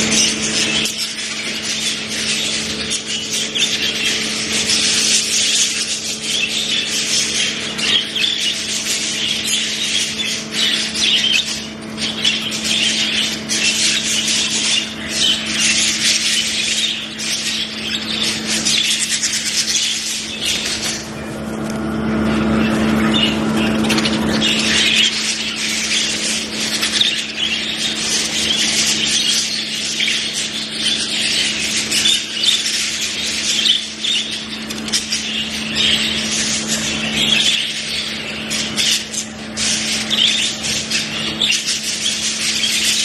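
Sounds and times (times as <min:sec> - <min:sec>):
budgerigars chattering: 0:00.0 - 0:43.0
steady low hum: 0:00.0 - 0:43.0.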